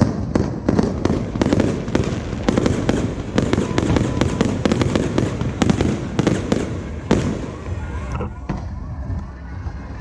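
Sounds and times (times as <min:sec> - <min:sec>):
fireworks bangs and crackles: 0:00.0 - 0:09.2.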